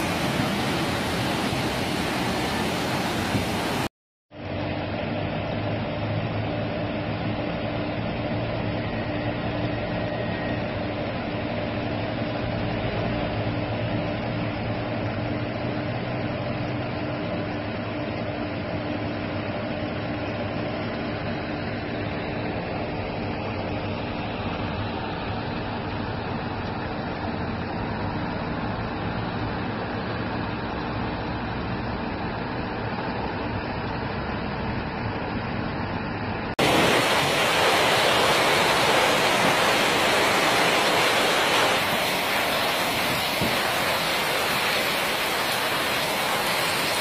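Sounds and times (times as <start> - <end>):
aircraft cabin hum and rushing air: 0.0 - 47.0.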